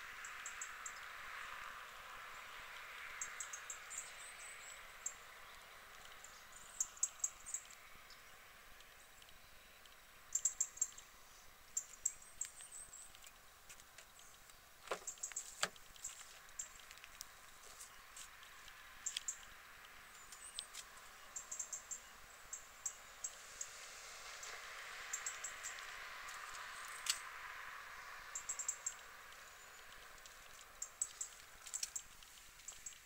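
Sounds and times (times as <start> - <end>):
quiet hiss: 0.0 - 33.0
small birds twittering: 0.0 - 33.0.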